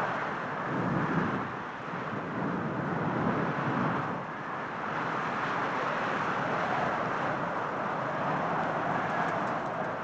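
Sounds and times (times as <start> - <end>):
wind blowing in gusts: 0.0 - 10.0.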